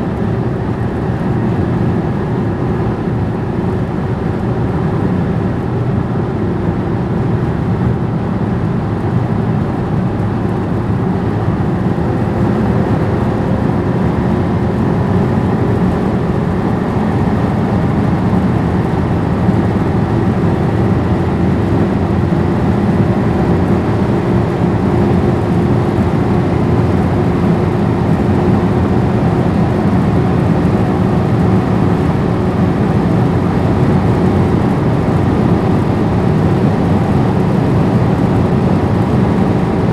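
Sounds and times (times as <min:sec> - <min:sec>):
faint engine drone: 0:00.0 - 0:39.9.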